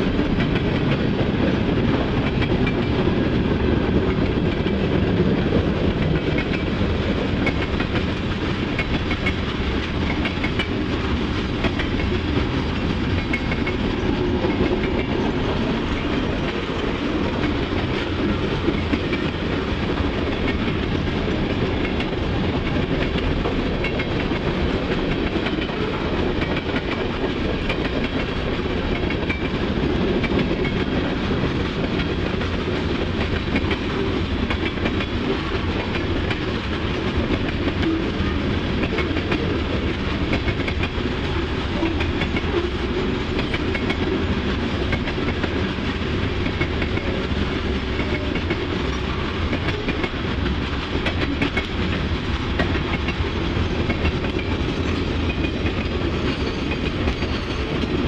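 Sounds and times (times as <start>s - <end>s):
freight cars rumbling on rails: 0.0s - 58.0s.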